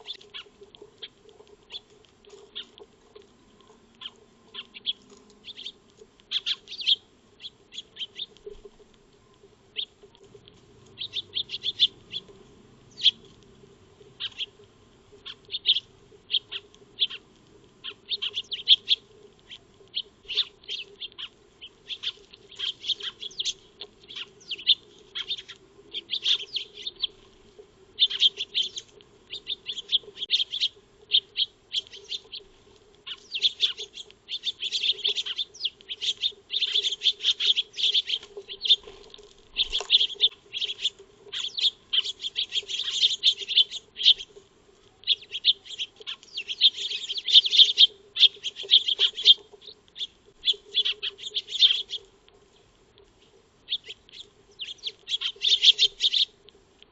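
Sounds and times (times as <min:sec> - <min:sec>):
sparrows chirping: 0:00.0 - 0:01.1, 0:01.7 - 0:03.2, 0:04.0 - 0:08.6, 0:09.7 - 0:13.4, 0:14.0 - 0:14.6, 0:15.2 - 0:17.2, 0:17.8 - 0:27.2, 0:28.0 - 0:44.4, 0:45.0 - 0:52.0, 0:53.7 - 0:56.3
faint low hum: 0:00.0 - 0:56.9.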